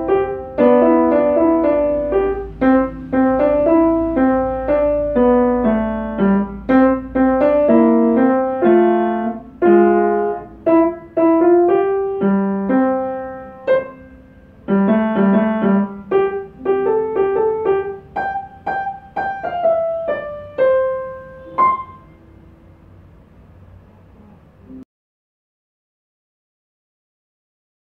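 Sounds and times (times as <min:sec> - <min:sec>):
upright piano melody: 0:00.0 - 0:23.8.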